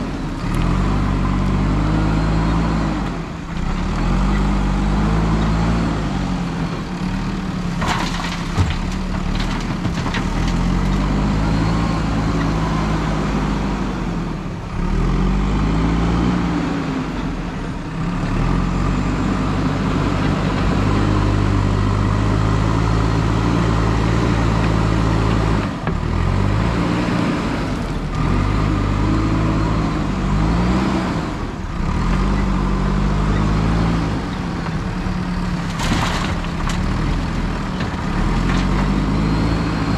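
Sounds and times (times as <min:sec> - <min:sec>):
backhoe diesel engine revving: 0:00.0 - 0:39.9.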